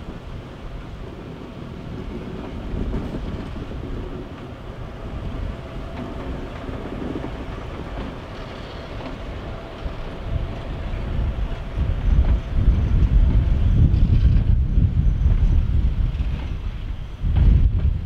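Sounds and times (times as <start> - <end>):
diesel locomotive passing: 0.0 - 18.0
train wheels on rails: 0.0 - 18.0.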